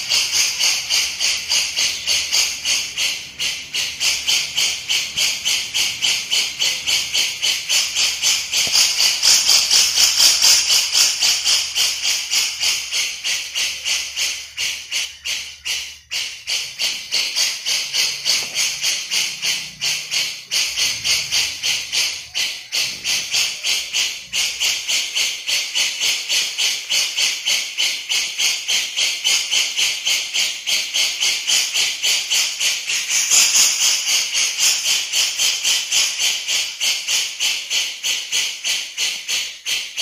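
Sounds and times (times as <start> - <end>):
bulbul rapid raspy chatter: 0.0 - 40.0.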